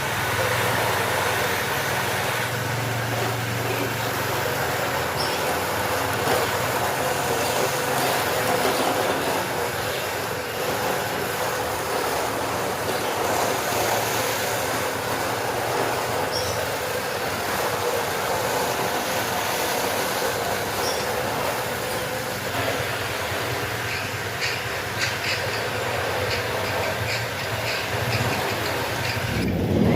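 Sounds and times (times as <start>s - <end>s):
continuous hiss: 0.0s - 29.9s
small motor humming: 0.0s - 29.9s.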